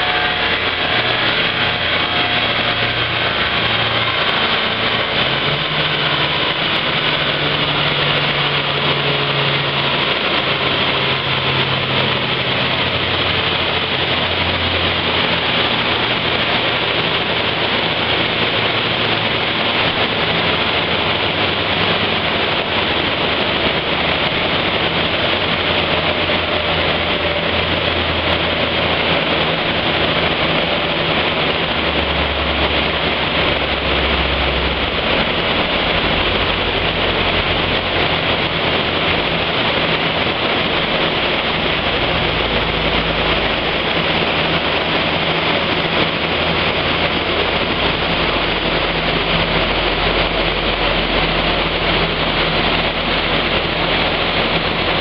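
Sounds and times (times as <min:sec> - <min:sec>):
car engine humming: 0:00.0 - 0:55.0
dyno rollers and tyres whirring: 0:00.0 - 0:55.0.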